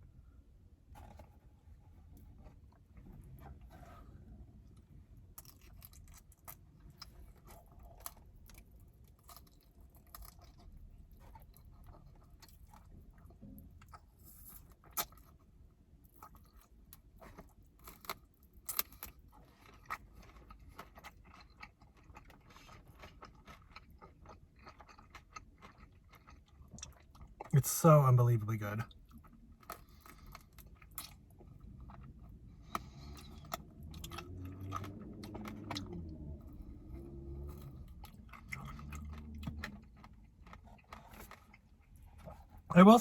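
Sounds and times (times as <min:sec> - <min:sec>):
chewing and biting chicken wings: 0:05.3 - 0:15.4, 0:16.1 - 0:27.5, 0:28.9 - 0:42.6.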